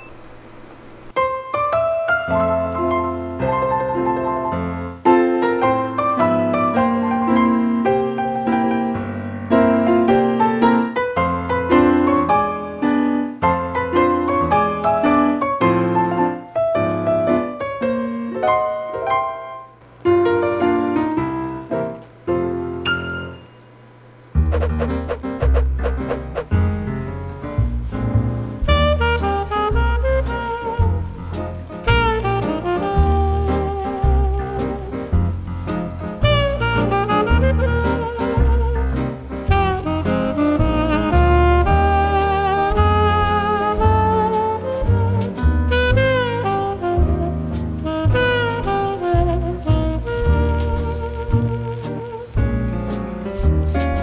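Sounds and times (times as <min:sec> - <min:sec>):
gentle piano melody: 0:01.1 - 0:23.8, 0:24.4 - 0:54.0.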